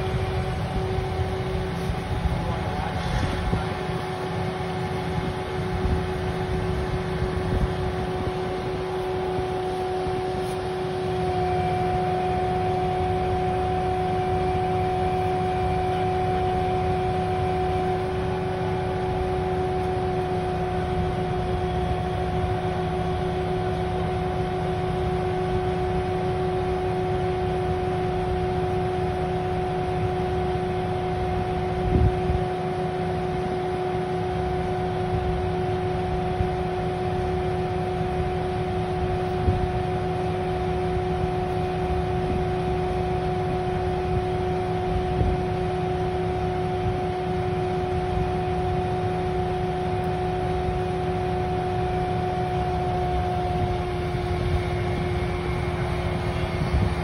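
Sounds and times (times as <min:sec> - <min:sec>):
machinery hum and rumble: 0:00.0 - 0:57.0.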